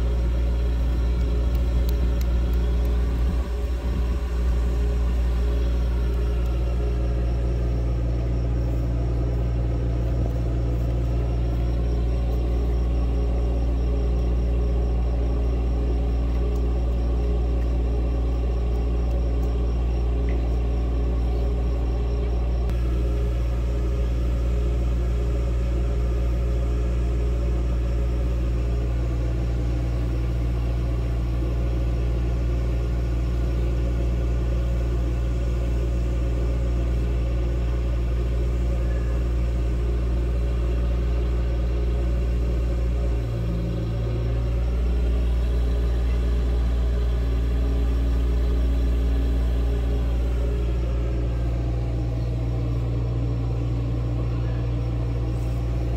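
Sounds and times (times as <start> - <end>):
low machine hum: 0.0 - 55.9.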